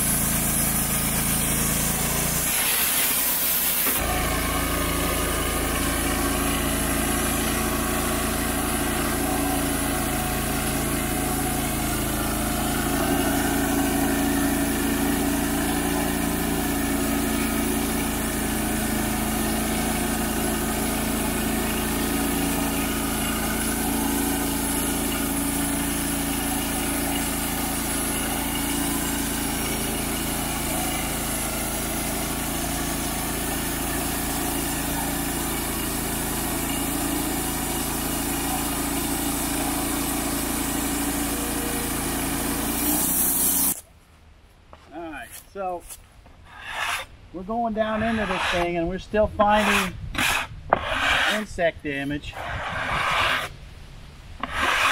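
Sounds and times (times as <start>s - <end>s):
band sawmill sawing log: 0.0s - 43.8s, 45.0s - 53.6s, 54.4s - 54.9s.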